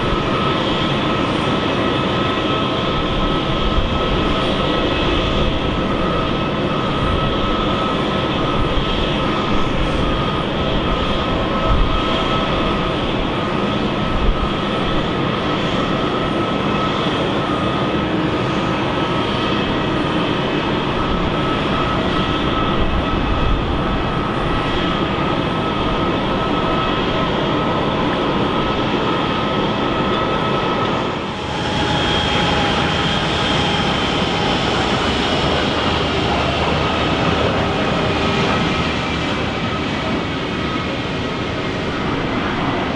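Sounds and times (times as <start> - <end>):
jet engines whining and roaring: 0.0 - 42.9.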